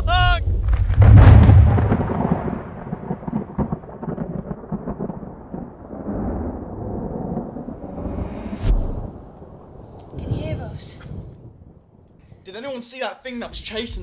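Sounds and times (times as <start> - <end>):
loud boom with crackling rumble: 0.0 - 12.2.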